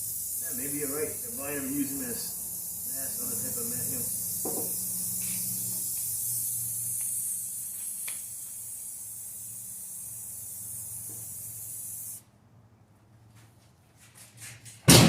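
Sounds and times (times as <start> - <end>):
aerosol spray can hissing: 0.0 - 12.2.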